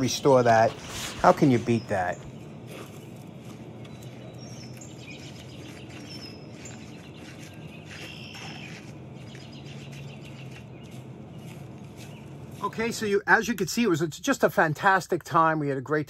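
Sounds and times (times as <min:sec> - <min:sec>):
faint low hum: 0:00.0 - 0:14.6
birds chirping: 0:00.0 - 0:15.8.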